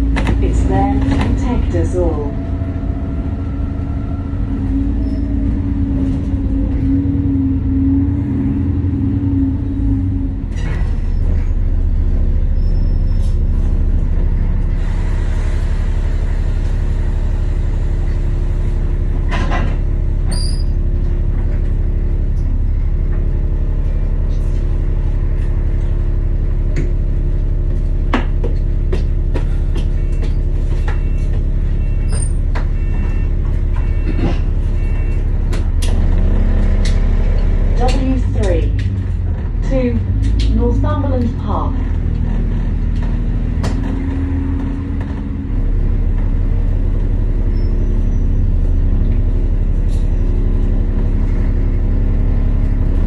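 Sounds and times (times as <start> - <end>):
bus engine humming: 0.0 - 53.0.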